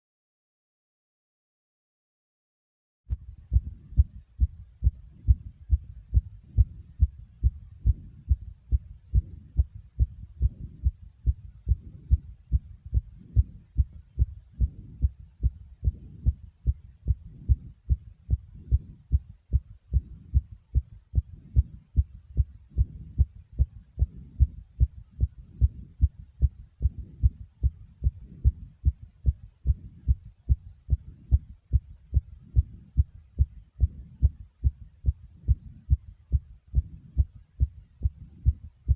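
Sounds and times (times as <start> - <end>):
fast heartbeat thumps: 3.1 - 38.9.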